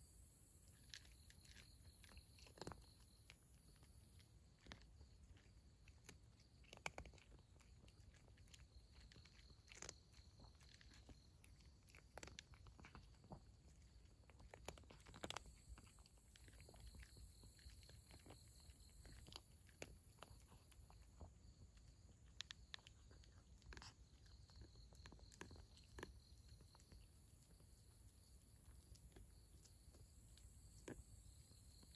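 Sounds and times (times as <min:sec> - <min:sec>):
cat chewing dry kibble: 0:00.0 - 0:31.9.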